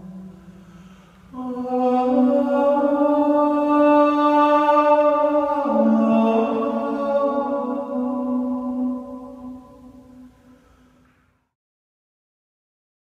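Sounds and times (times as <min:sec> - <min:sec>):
slow music of long held notes: 0:00.0 - 0:11.1.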